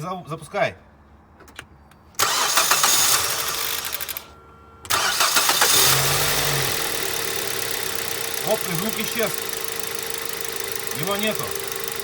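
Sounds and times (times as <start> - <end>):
car engine starting and running: 2.2 - 12.0.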